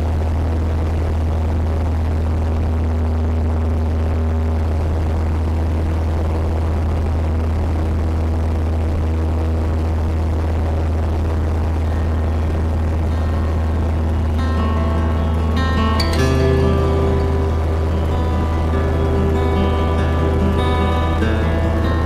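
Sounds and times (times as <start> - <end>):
airplane engine droning: 0.0 - 22.0.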